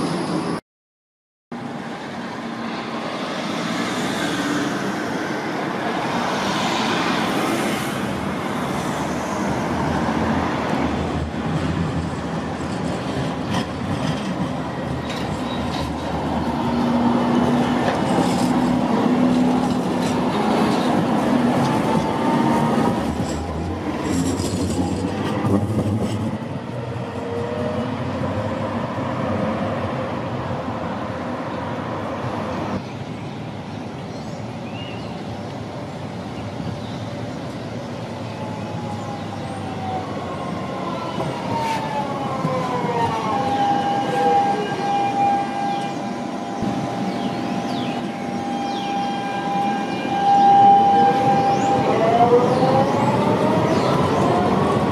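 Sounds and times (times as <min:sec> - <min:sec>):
tram wheels on rails: 0:01.6 - 0:54.9.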